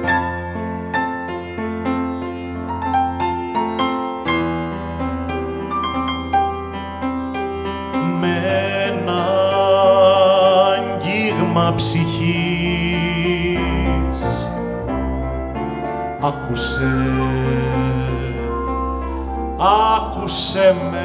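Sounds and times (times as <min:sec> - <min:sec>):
held melody with vibrato: 0:00.0 - 0:21.0
slow ballad by small ensemble: 0:00.0 - 0:21.0.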